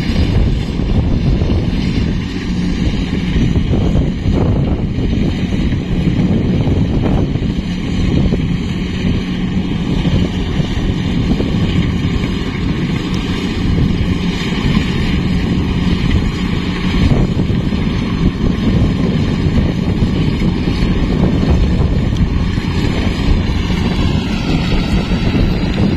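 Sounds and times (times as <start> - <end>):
combine harvester running: 0.0 - 25.9
wind buffeting microphone: 0.0 - 25.9.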